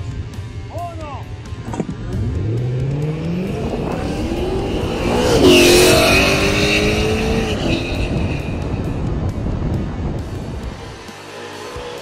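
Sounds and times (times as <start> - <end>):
race car engine revving: 1.6 - 12.0.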